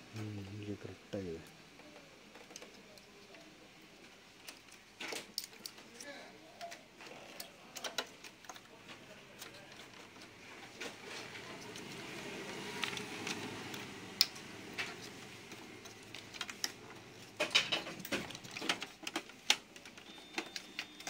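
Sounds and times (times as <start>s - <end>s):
plastic parts clicking: 1.8s - 12.0s, 12.7s - 21.0s.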